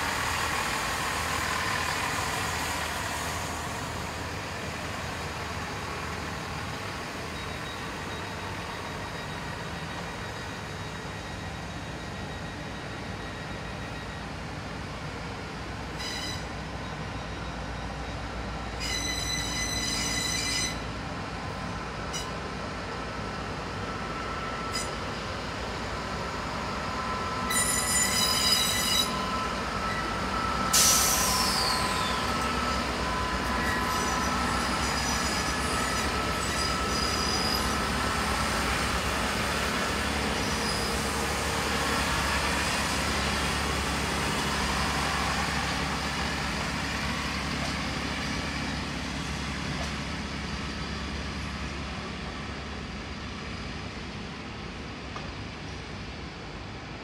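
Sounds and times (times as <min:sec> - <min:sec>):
wheels squealing on rails: 0:00.0 - 0:54.4
train rumbling: 0:00.0 - 0:57.0.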